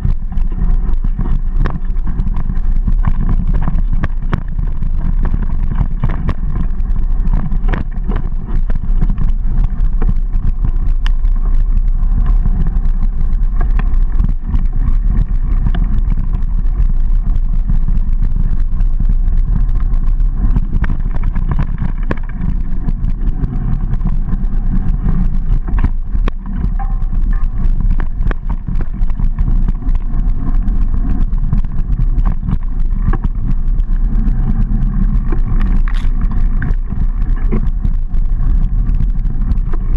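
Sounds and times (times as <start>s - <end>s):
bike rattling over bumps: 0.0s - 39.9s
wind and rolling noise: 0.0s - 39.9s.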